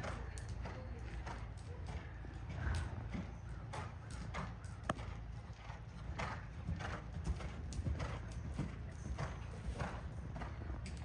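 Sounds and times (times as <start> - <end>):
horse hoofbeats on soft ground: 0.0 - 11.0.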